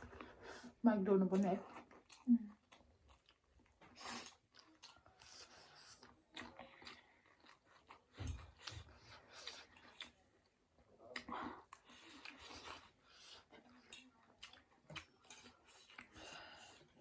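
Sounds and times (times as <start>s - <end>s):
person chewing noodles: 0.0s - 0.8s, 1.6s - 17.0s.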